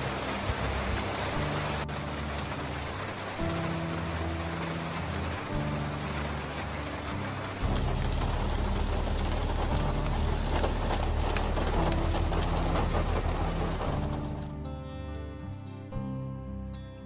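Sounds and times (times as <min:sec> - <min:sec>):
rain falling: 0:00.0 - 0:14.7
raindrops hitting car roof: 0:00.0 - 0:14.7
engine running: 0:00.2 - 0:14.7.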